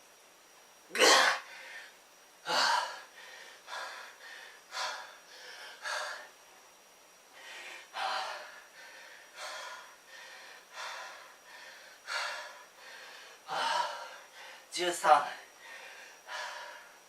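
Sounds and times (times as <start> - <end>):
man breathing hard: 1.4 - 6.4, 7.3 - 14.7, 15.4 - 17.0.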